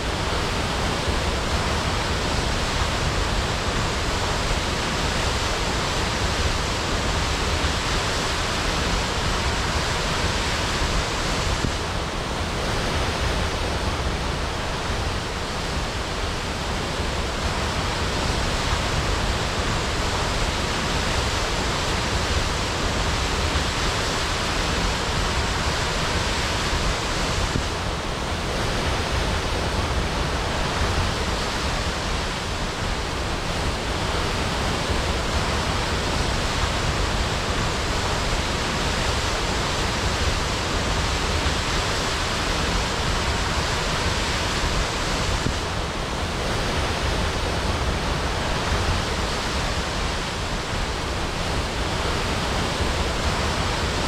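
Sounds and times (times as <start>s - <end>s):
waterfall crashing: 0.0s - 54.0s.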